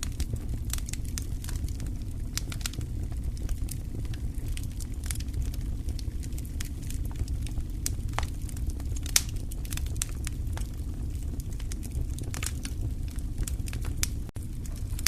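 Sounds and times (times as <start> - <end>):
low rumble of flames: 0.0 - 15.0
wood fire pops and snaps: 0.0 - 15.0.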